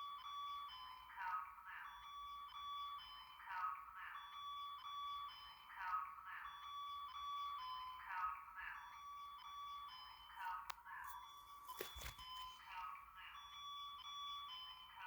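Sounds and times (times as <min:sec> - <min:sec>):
faint electronic alarm tone: 0:00.0 - 0:15.0.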